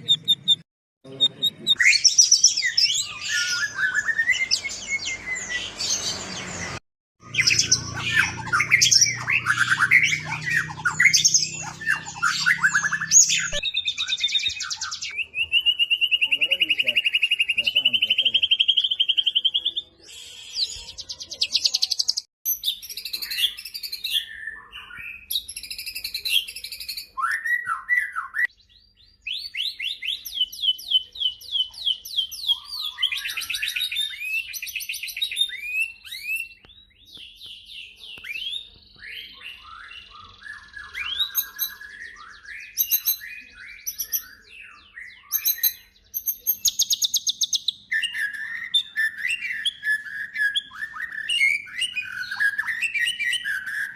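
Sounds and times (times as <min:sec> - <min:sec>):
bird singing trills and whistles: 0:00.0 - 0:53.9.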